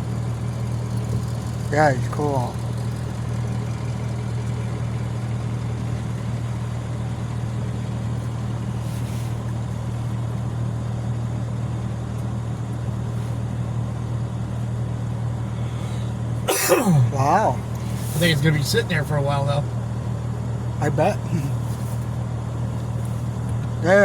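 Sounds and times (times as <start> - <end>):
car engine hum inside cabin: 0.0 - 24.0.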